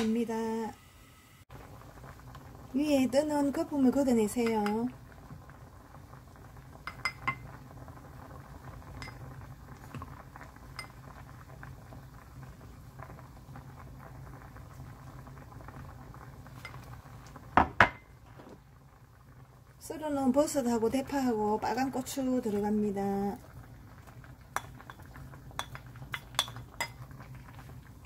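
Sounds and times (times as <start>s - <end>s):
stew bubbling in a pot: 1.5s - 28.0s.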